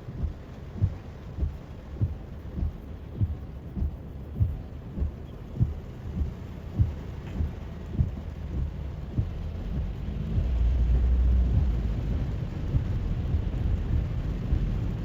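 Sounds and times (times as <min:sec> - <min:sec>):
rain hissing on wet road: 0:00.0 - 0:15.0
windshield wipers thumping: 0:00.2 - 0:15.0.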